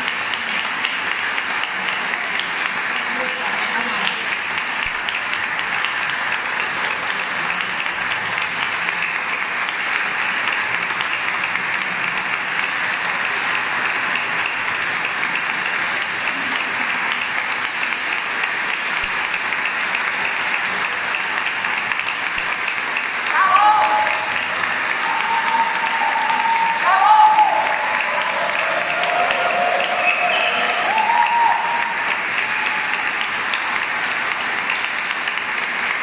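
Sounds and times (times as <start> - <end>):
audience applauding: 0.0 - 36.0.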